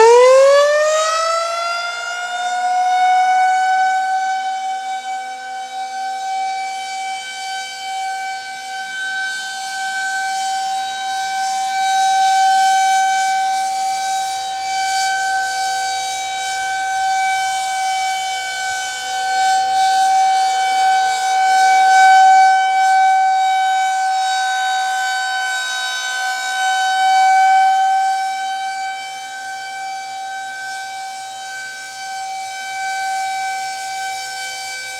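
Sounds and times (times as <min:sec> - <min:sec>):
rotating warning siren: 0:00.0 - 0:34.9.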